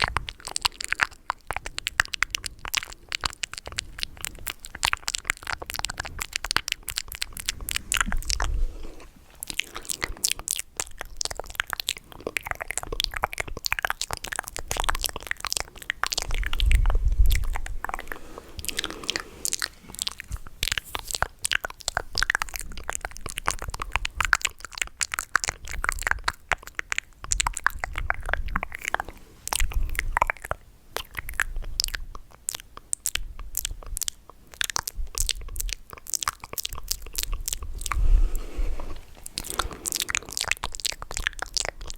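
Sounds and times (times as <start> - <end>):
wet mouth clicks and smacks: 0.0 - 41.9.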